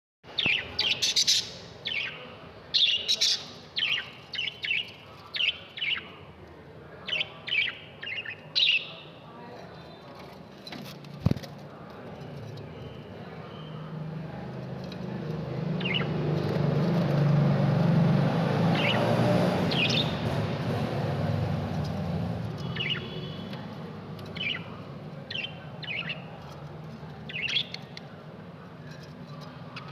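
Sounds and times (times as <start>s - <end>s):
lovebirds chirping: 0.2s - 10.0s, 11.0s - 29.9s.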